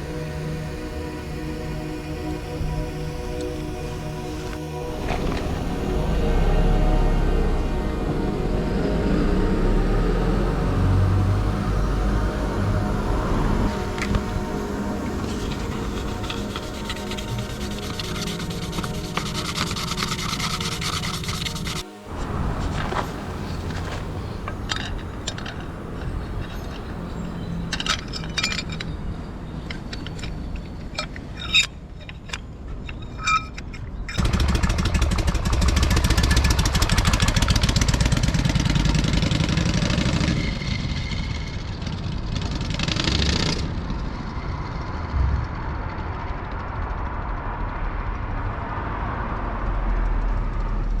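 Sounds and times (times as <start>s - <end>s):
motorcycle engine idling and revving: 0.0s - 30.9s, 34.2s - 51.0s.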